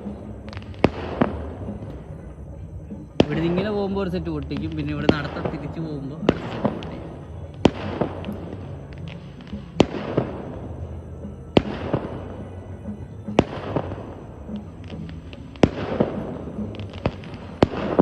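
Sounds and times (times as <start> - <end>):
smaller firework pops: 0.0 - 2.4, 3.1 - 10.8, 11.5 - 18.0
fireworks bangs: 0.0 - 18.0.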